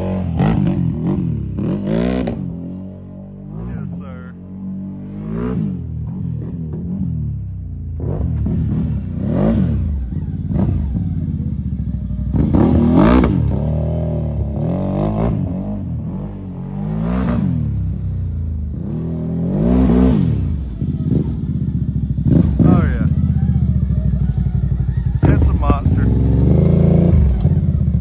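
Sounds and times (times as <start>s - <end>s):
atv engine revving: 0.0s - 28.0s.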